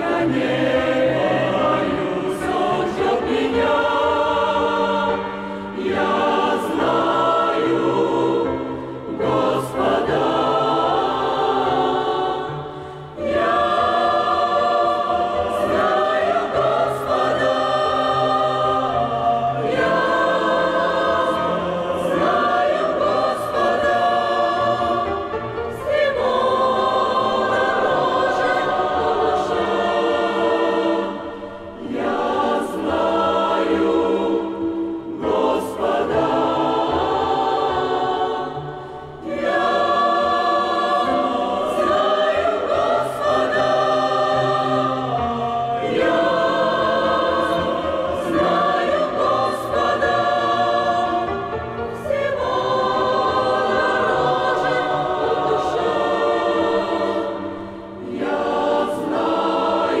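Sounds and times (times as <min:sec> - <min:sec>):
choir singing a hymn: 0:00.0 - 1:00.0.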